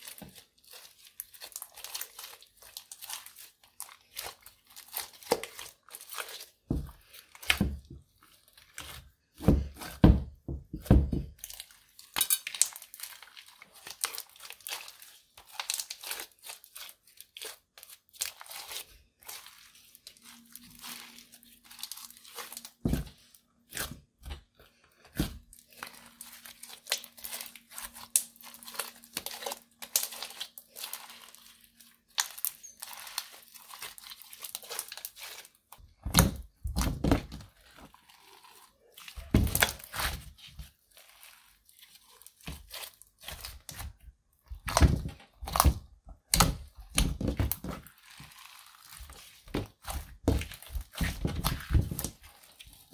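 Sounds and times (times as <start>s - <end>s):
slime squelching and crackling: 0.0s - 52.9s.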